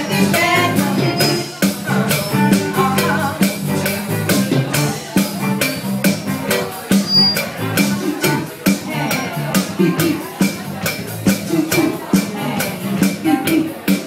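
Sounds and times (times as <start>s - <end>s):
music with steady percussion beat: 0.0s - 14.0s.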